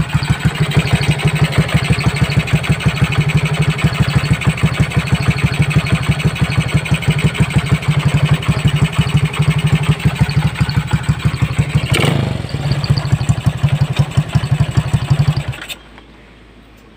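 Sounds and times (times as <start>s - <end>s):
motorcycle engine revving: 0.0s - 15.8s
motorcycle engine idling: 0.0s - 16.0s.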